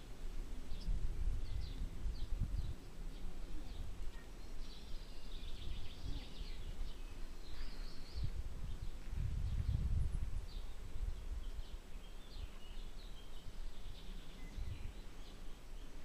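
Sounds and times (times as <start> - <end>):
small birds chirping: 0.0 - 16.0
wind on microphone: 0.0 - 16.0.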